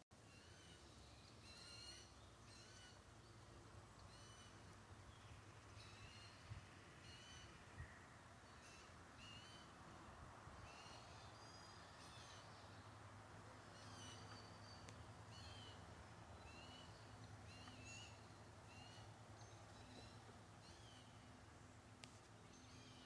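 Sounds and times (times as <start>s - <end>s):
faint bird chirps: 0.2s - 9.8s, 10.6s - 13.0s, 13.6s - 21.4s, 22.4s - 23.0s.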